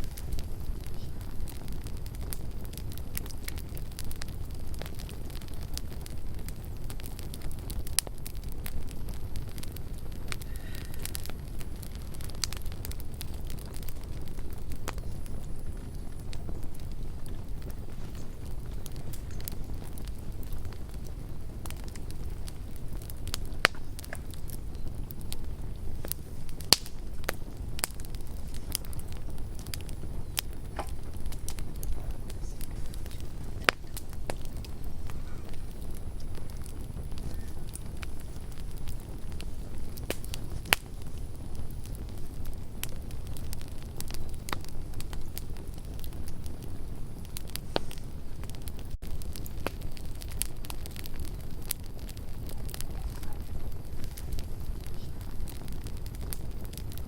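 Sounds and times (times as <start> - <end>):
burning wood popping and crackling: 0.0 - 57.0
campfire low rumble: 0.0 - 57.0.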